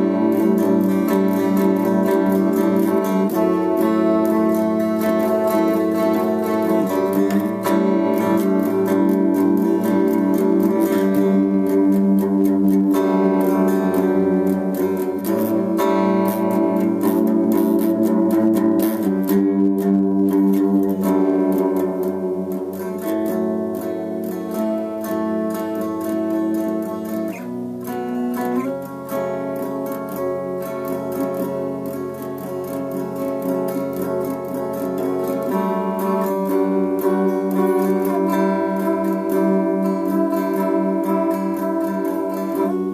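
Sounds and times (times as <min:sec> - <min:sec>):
guitar instrumental piece: 0:00.0 - 0:42.9.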